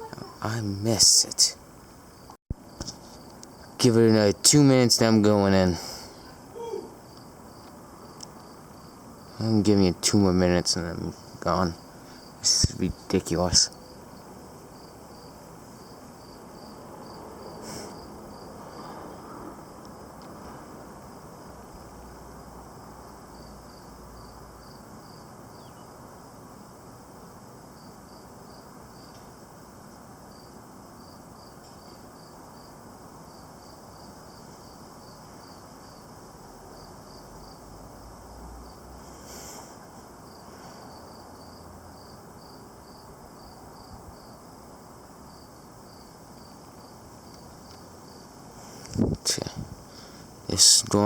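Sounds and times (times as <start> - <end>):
faint outdoor hiss: 0.0 - 51.0
insects chirping: 0.0 - 51.0.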